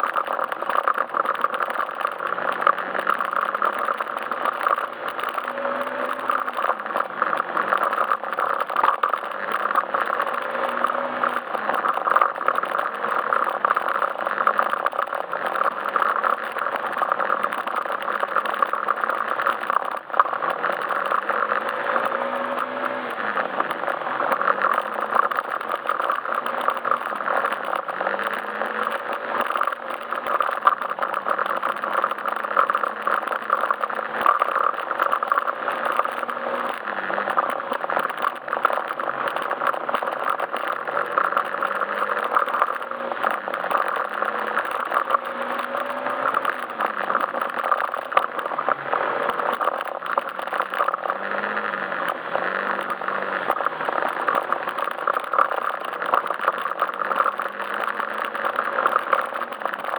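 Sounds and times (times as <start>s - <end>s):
rattle: 0.0s - 59.9s
scooter engine running: 0.0s - 59.9s
wind and road noise: 0.0s - 59.9s.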